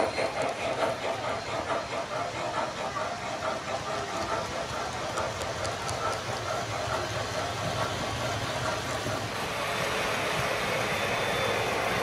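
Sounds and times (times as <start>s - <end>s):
model freight cars rolling: 0.0s - 12.0s.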